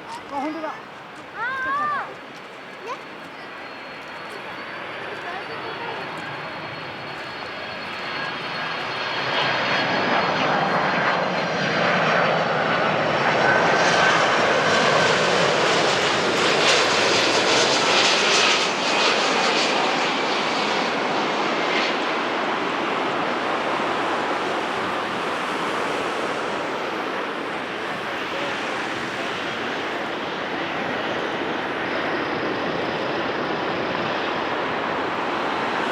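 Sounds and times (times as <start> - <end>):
jet airliner engines rushing: 0.0 - 35.9.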